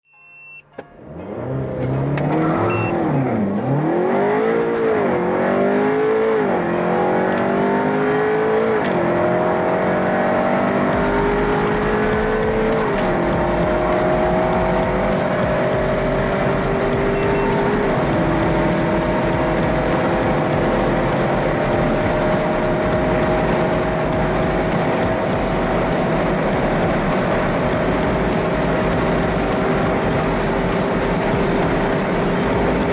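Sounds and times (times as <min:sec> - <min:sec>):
car engine accelerating hard: 0:00.8 - 0:32.9.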